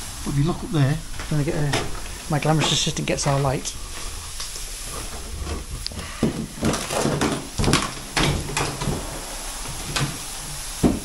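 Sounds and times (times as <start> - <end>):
objects knocking and clattering: 1.1 - 11.0.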